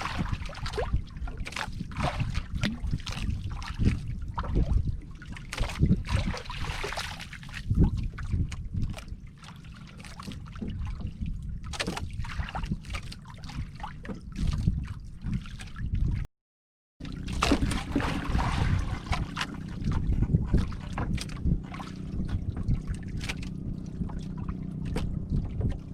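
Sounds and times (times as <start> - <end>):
water lapping against boat hull: 0.0 - 16.3, 17.0 - 25.9
wind rumble on microphone: 0.0 - 16.3, 17.0 - 25.9.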